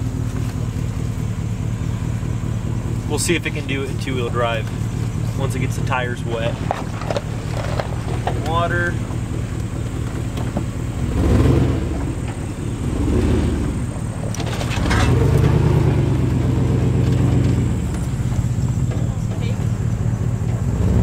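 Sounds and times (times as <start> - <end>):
pickup engine revving under load: 0.0 - 21.0.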